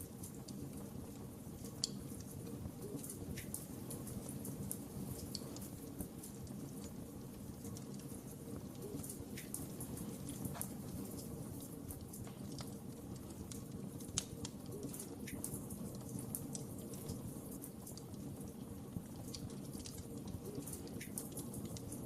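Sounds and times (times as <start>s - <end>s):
flames rushing: 0.0s - 22.0s
wood fire popping and snapping: 0.0s - 22.0s.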